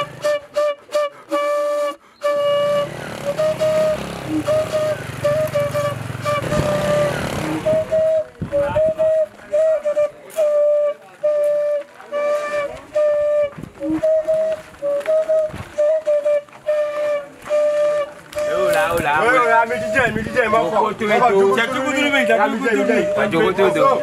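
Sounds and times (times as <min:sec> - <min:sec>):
flute playing short notes: 0:00.0 - 0:24.0.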